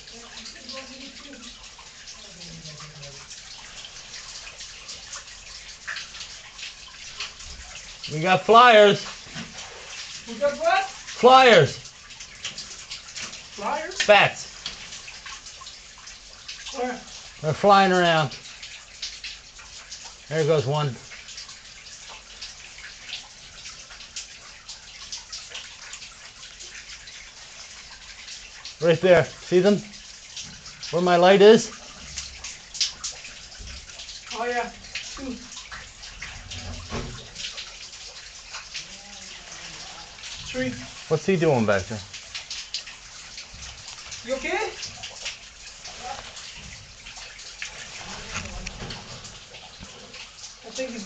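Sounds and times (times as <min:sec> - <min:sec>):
water drips spattering: 0:00.0 - 0:51.0
water running in a cave: 0:00.0 - 0:51.0.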